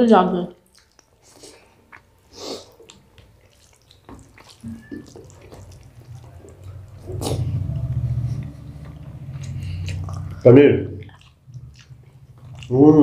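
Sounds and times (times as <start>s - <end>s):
wet chewing and lip smacks: 0.6s - 13.0s.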